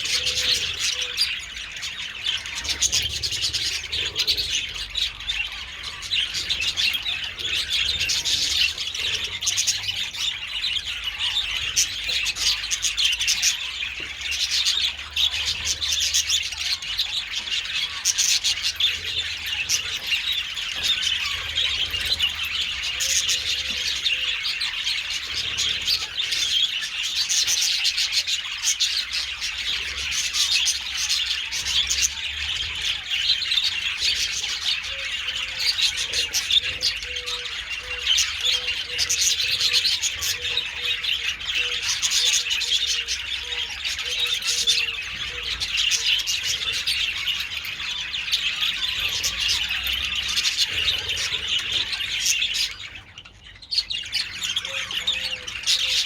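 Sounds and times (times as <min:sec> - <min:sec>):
budgies chattering: 0:00.0 - 0:56.0.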